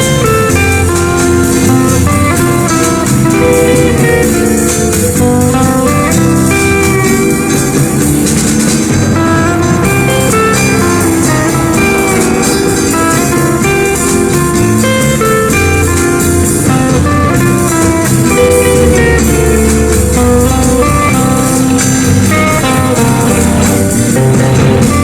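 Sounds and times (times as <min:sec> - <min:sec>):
guitar-led instrumental music: 0:00.0 - 0:25.0.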